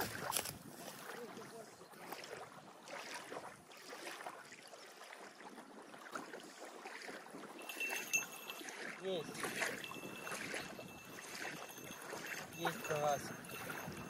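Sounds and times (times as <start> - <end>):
small waves washing onto shore: 0.0 - 14.0.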